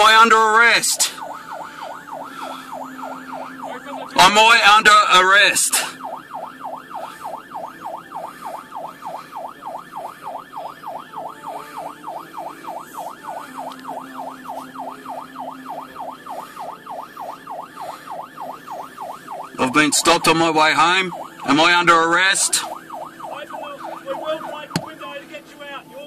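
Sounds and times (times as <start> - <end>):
police siren yelping: 0.0 - 26.0.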